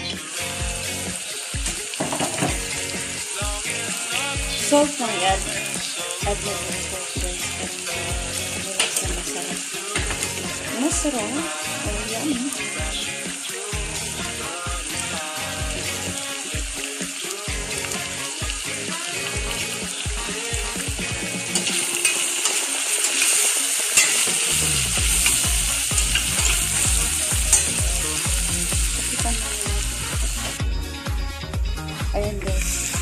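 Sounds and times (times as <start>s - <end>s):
vegetables sizzling in a pot: 0.0s - 30.6s, 32.2s - 33.0s
background music with steady beat: 0.0s - 33.0s.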